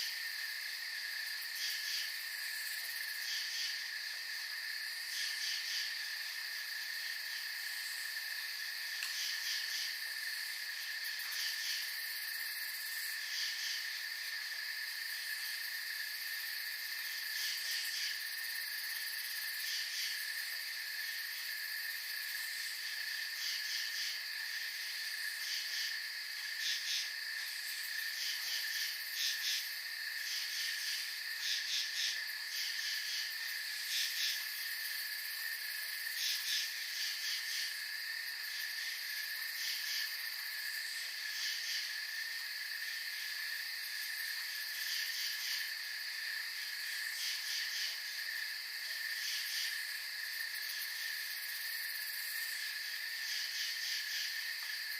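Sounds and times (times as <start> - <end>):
crickets chirping: 0.0 - 54.9
insects trilling: 0.0 - 54.9.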